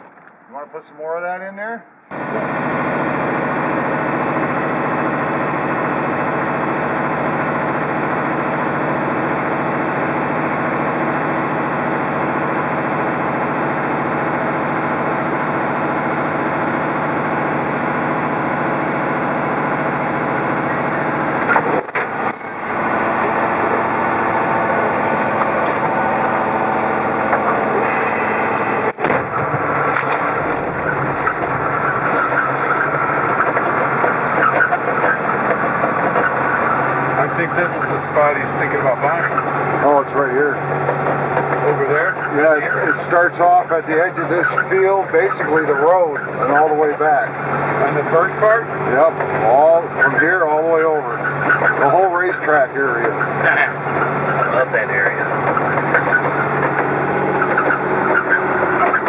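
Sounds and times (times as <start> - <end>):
vehicle engine running: 2.1 - 59.0.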